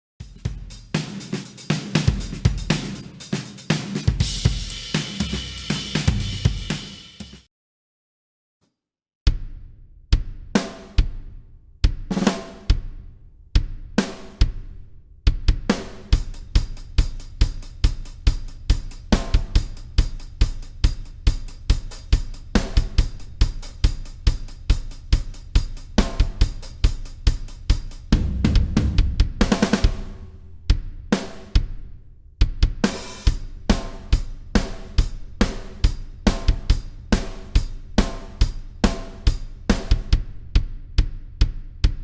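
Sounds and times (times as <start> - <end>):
drum kit groove: 0.2 - 7.5, 9.3 - 11.2, 11.8 - 13.0, 13.6 - 42.0.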